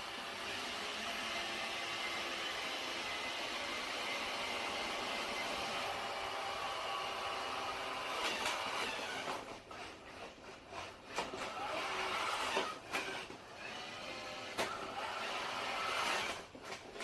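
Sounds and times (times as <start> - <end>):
robot vacuum motor whir: 0.0 - 17.0.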